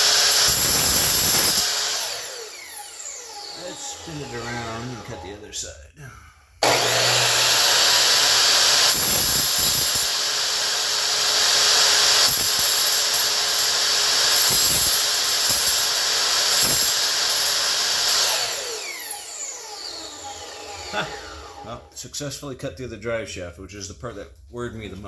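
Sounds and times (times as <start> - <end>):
power cutting tool whining: 0.0 - 5.6, 6.6 - 21.9.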